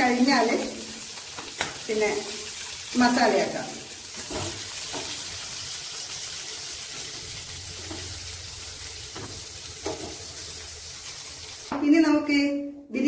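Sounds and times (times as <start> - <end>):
chicken sizzling in a pan: 0.0 - 11.8.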